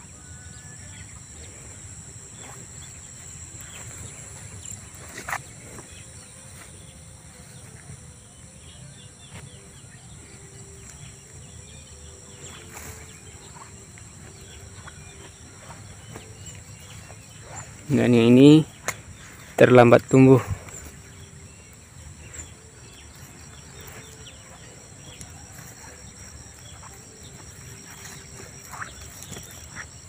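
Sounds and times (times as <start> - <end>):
bird chirps: 0.0 - 30.0
insects chirring: 0.0 - 30.0.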